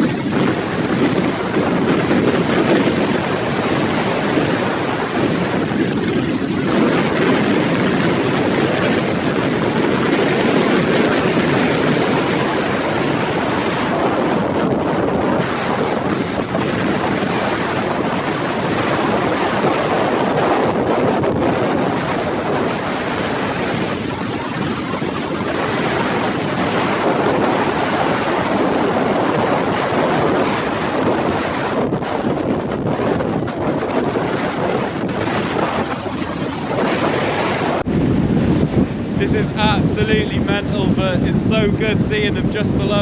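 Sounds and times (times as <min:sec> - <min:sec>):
wind blowing across microphone: 0:00.0 - 0:43.0.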